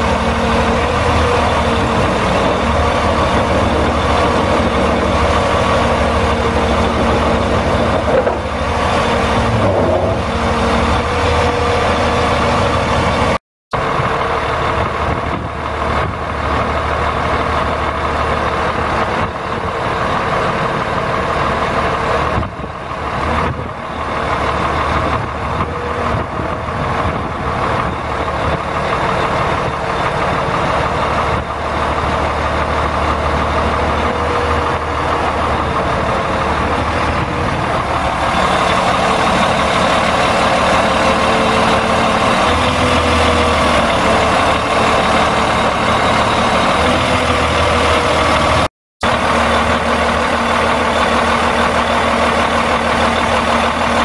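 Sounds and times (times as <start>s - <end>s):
diesel truck engine idling: 0.0s - 9.6s, 10.2s - 54.0s.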